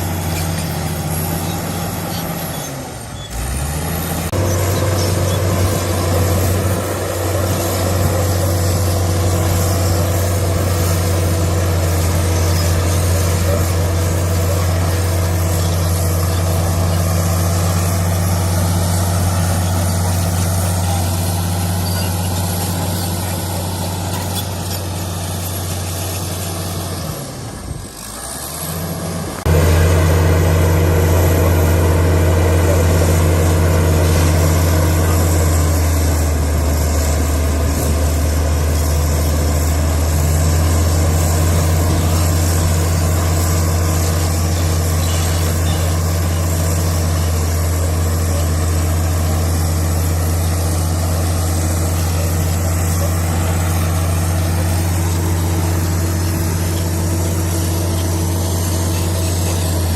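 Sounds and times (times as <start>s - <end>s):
bulldozer diesel engine hum: 0.0s - 59.9s.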